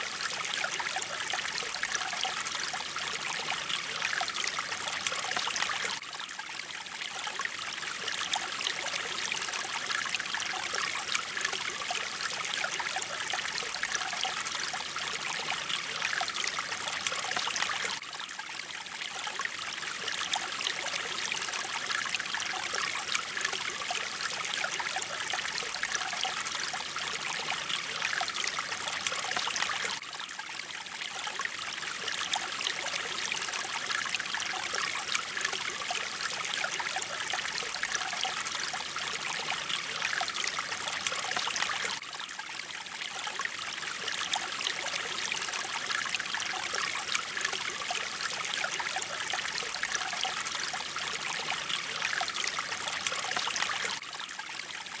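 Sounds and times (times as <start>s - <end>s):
stream water rushing and splashing: 0.0s - 55.0s.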